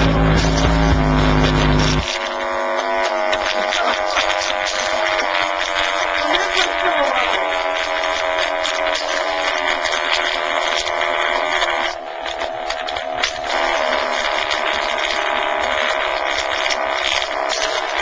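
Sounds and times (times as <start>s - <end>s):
overdriven subwoofer buzzing drone: 0.0s - 18.0s.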